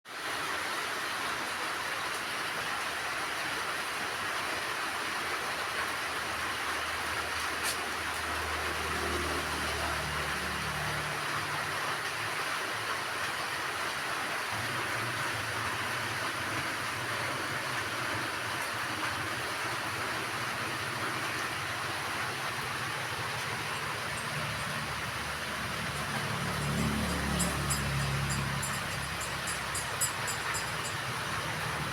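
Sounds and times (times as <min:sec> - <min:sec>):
steady rain hiss: 0:00.1 - 0:27.5.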